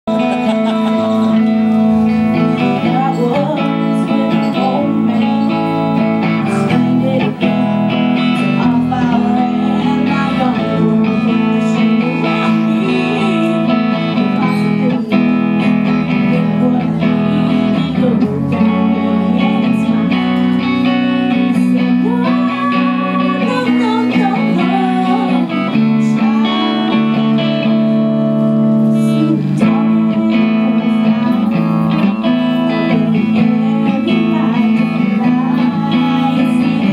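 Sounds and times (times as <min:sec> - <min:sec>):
electric guitars playing rock: 0:00.0 - 0:36.9
woman singing: 0:00.1 - 0:36.9.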